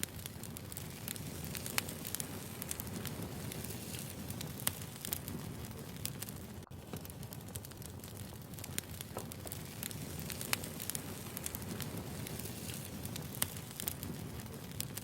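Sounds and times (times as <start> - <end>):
firewood crackling and popping: 0.0 - 15.0
low rush of fire: 0.0 - 15.0.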